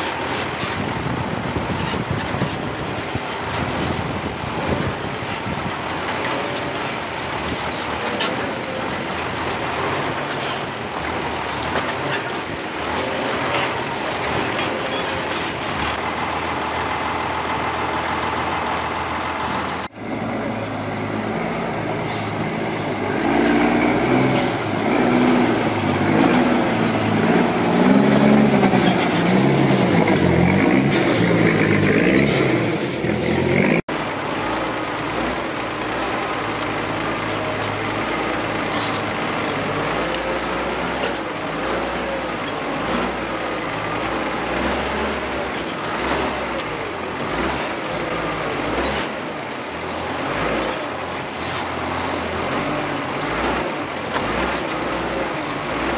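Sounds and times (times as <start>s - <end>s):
engine and drivetrain running: 0.0s - 55.9s
truck engine under load: 0.0s - 55.9s.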